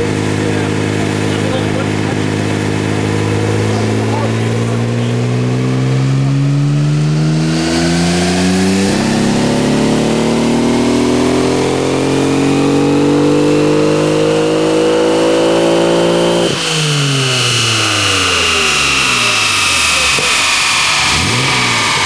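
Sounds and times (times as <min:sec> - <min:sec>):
misfiring engine revving: 0:00.0 - 0:22.0
turbo whine: 0:00.0 - 0:22.0.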